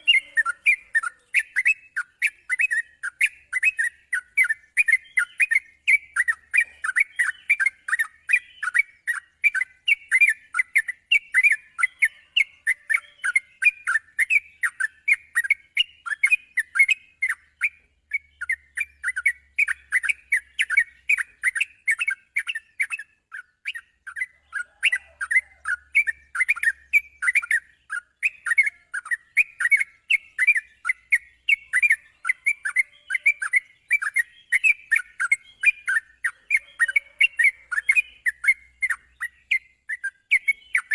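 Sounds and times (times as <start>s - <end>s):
bulbul chirping song: 0.0s - 40.9s.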